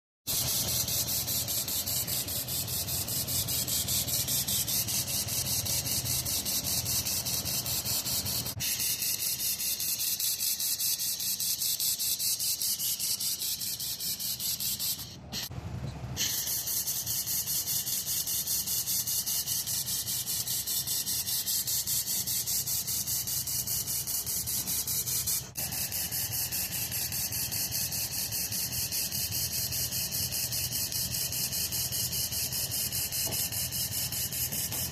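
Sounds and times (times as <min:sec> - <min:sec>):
laser welder pulsing hiss: 0:00.3 - 0:15.5, 0:16.2 - 0:34.9.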